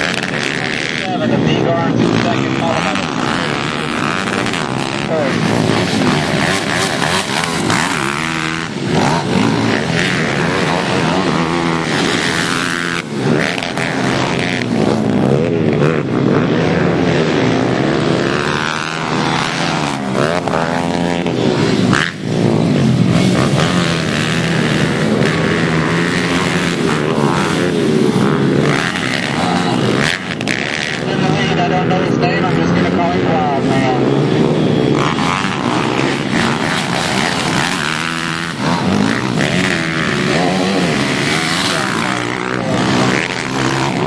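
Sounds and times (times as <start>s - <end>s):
pit bike engines revving: 0.0s - 44.0s.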